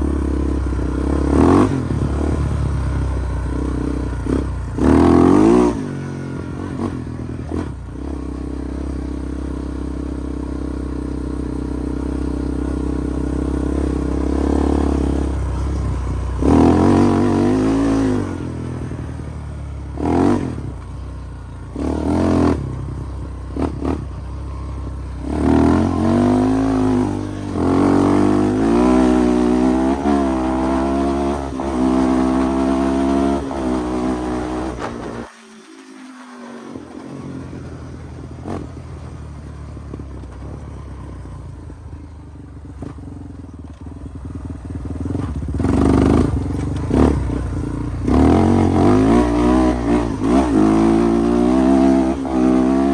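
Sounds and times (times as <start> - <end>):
single-cylinder engine revving: 0.0 - 52.9.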